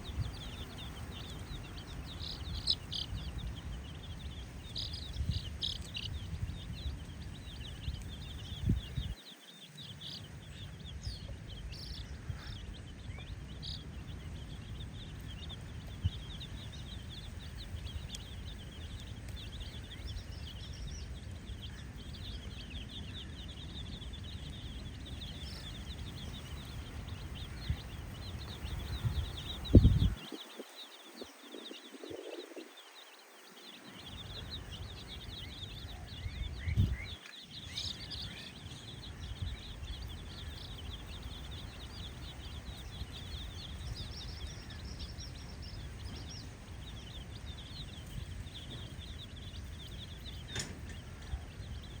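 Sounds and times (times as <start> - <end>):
baby chicks peeping: 0.0 - 52.0.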